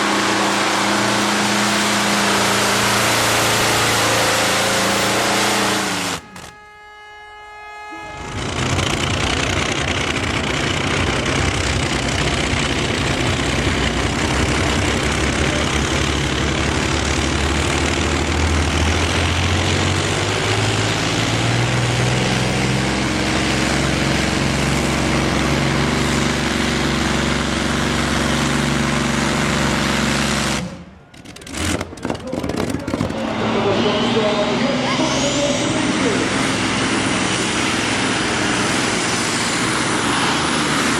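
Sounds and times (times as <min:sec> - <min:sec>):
tractor engine under load: 0:00.0 - 0:40.9.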